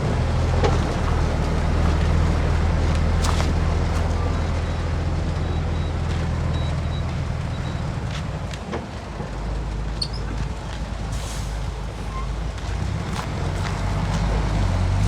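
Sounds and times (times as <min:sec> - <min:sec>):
heavy diesel engine droning: 0:00.0 - 0:15.0.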